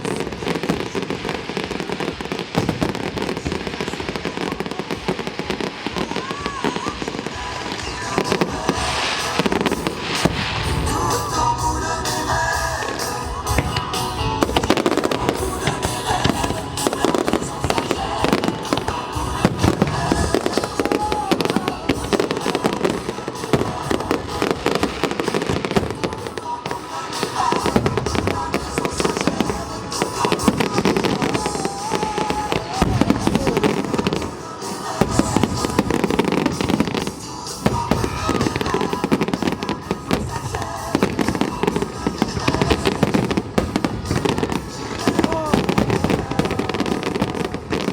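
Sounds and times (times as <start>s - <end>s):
fireworks bangs and crackling: 0.0s - 47.9s
music playing: 0.0s - 47.9s.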